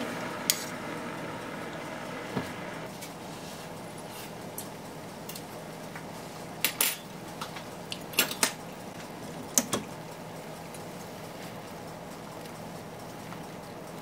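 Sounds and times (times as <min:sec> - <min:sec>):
water boiling: 0:00.0 - 0:14.0.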